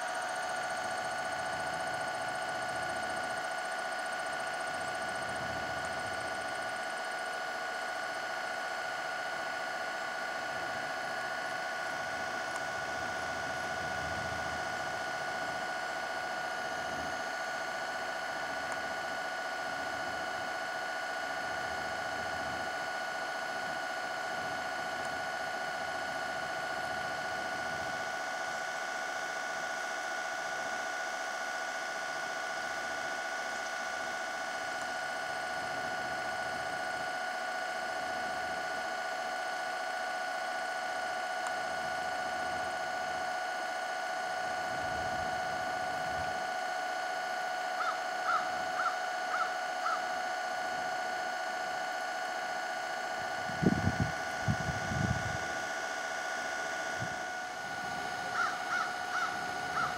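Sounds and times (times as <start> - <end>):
electric motor high whine: 0.0 - 59.9.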